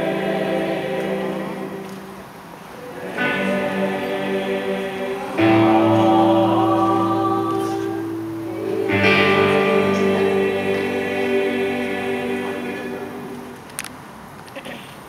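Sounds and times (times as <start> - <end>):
choir singing held chords: 0.0 - 14.2.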